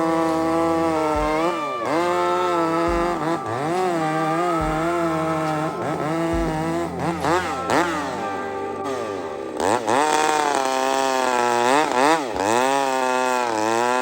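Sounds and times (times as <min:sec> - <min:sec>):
chainsaw cutting at high revs: 0:00.0 - 0:14.0.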